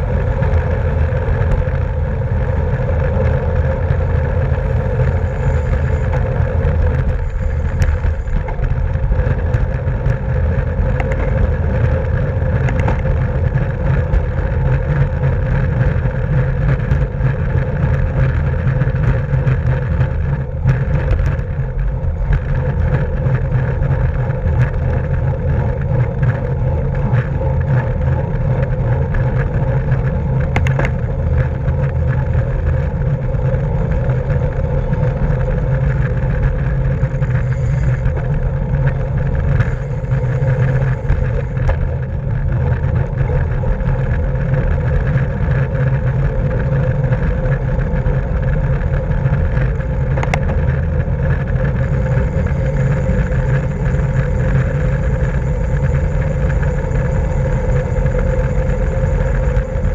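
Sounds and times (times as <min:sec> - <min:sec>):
bicycle tyre and drivetrain hum: 0:00.0 - 0:59.9
wind rush: 0:00.0 - 0:59.9.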